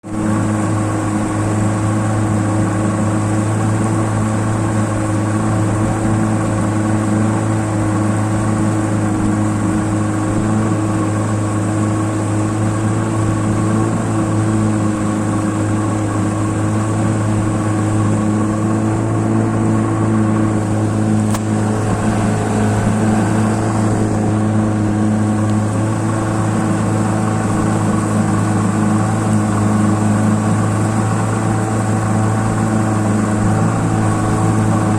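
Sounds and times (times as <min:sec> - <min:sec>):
boat motor droning: 0:00.0 - 0:34.9.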